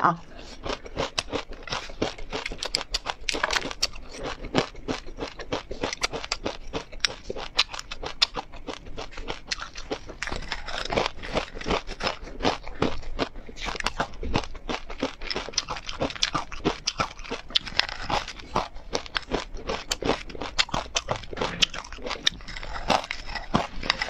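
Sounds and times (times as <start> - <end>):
crunchy chewing: 0.2 - 24.0.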